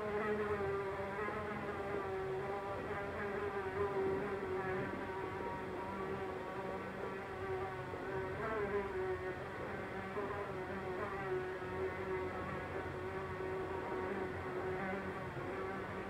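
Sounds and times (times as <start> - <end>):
housefly buzzing: 0.0 - 16.0.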